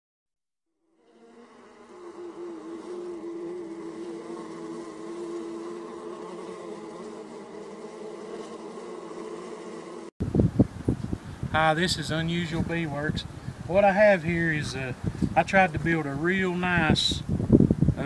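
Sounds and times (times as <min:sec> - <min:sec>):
honeybees buzzing: 0:00.8 - 0:18.0.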